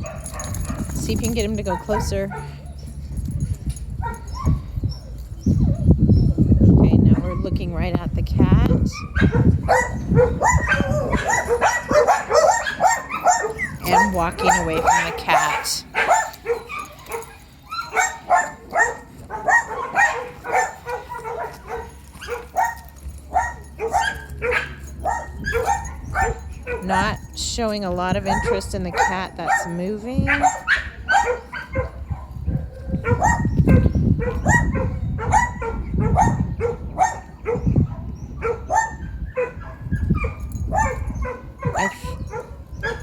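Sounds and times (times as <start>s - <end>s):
dog barking: 0.0s - 0.9s, 1.6s - 2.9s, 3.5s - 5.1s, 8.6s - 27.2s, 28.2s - 43.0s.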